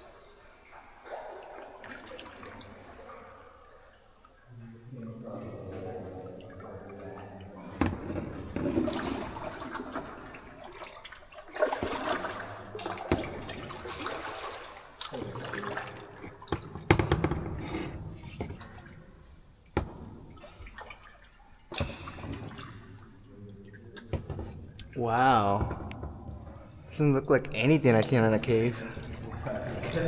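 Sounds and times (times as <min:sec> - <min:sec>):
water splashing and swishing: 0:00.0 - 0:30.0.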